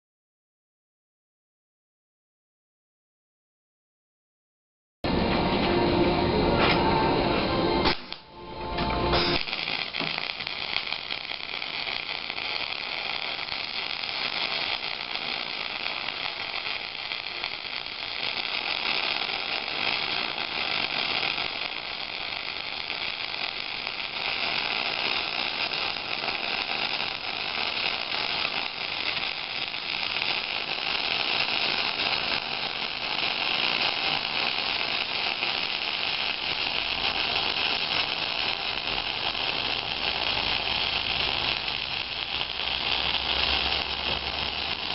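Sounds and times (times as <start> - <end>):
welding arc sizzling: 5.1 - 44.9.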